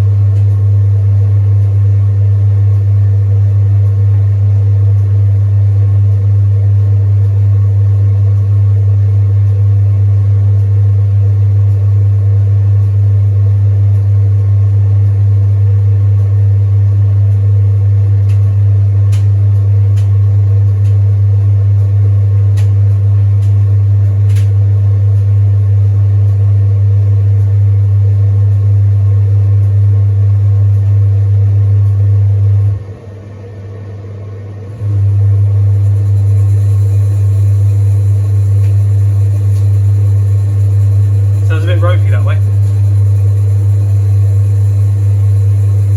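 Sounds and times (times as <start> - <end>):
blower fan running: 0.0 - 45.9
tumble dryer motor hum: 0.0 - 45.9.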